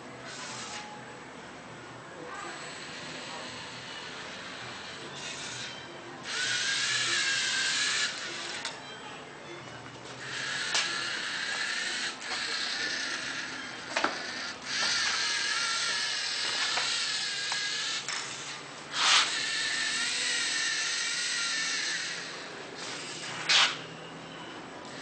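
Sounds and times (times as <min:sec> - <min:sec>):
servo motors whining: 0:00.2 - 0:01.0, 0:02.3 - 0:09.0, 0:10.2 - 0:25.0.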